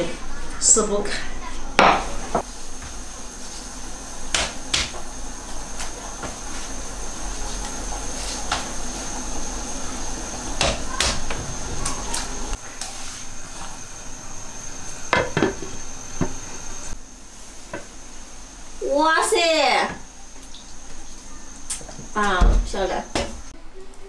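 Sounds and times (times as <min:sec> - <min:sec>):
boiling water hiss: 0:00.0 - 0:23.6.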